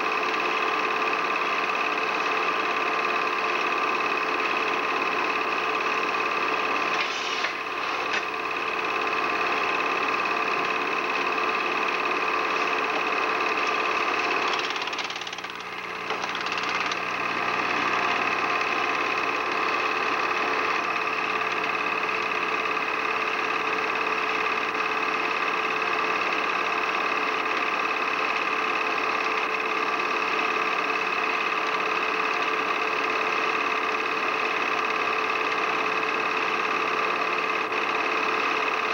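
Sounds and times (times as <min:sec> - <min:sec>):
film projector whirring and clattering: 0:00.0 - 0:38.9.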